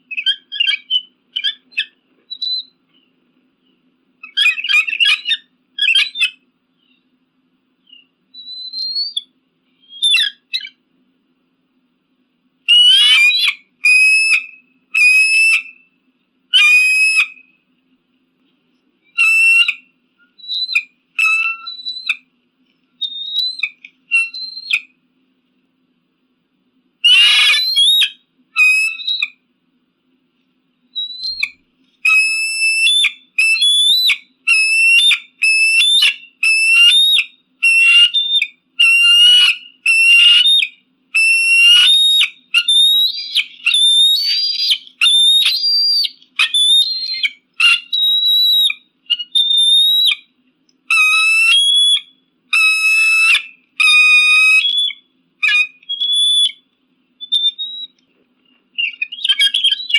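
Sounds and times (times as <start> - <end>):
eagle whistled calls: 0.0 - 7.1, 7.8 - 10.8, 12.7 - 15.9, 16.5 - 17.6, 19.0 - 22.3, 23.0 - 25.0, 27.0 - 29.4, 30.9 - 59.9.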